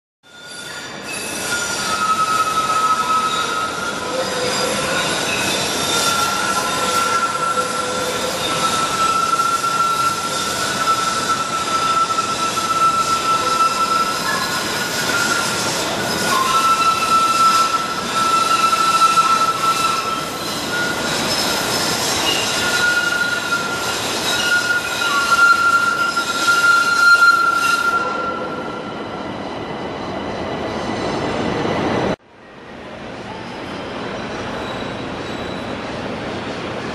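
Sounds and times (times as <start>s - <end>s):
train wheels squealing: 0.2s - 32.1s, 33.2s - 36.9s
train cars rumbling: 0.6s - 36.9s.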